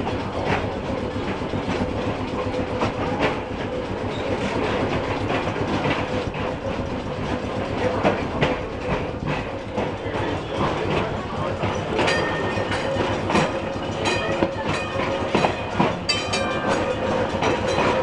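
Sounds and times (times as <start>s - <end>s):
streetcar wheels rumbling on rail: 0.0s - 18.0s.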